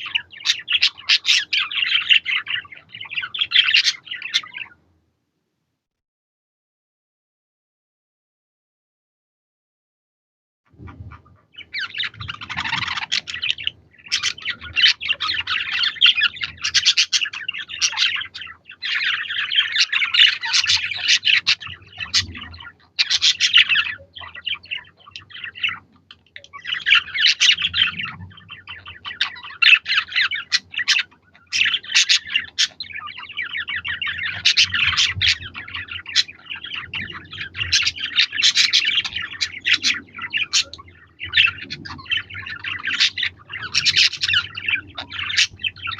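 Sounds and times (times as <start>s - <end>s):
budgerigars warbling and chirping: 0.0s - 4.8s, 10.8s - 45.9s.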